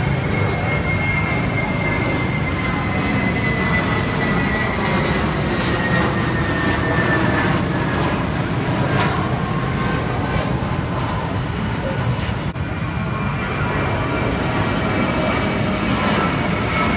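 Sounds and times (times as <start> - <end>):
jet engines roaring overhead: 0.0 - 16.9.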